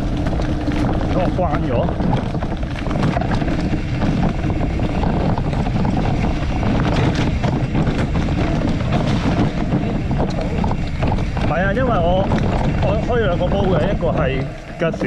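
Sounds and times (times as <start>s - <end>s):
bicycle rumbling over rough ground: 0.0s - 15.0s
small rattles: 0.0s - 15.0s
wind buffeting microphone: 0.0s - 15.0s.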